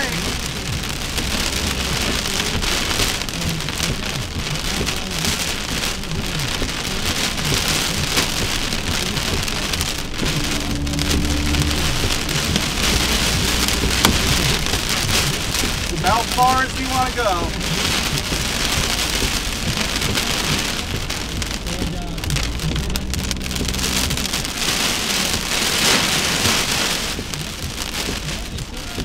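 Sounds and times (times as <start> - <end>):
low hum: 0.0 - 6.5, 7.2 - 28.8
heavy rain pouring: 0.0 - 29.0.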